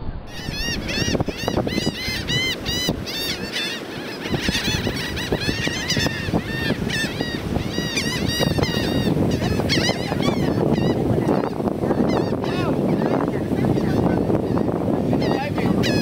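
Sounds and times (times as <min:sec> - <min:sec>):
gulls calling: 0:00.1 - 0:16.0.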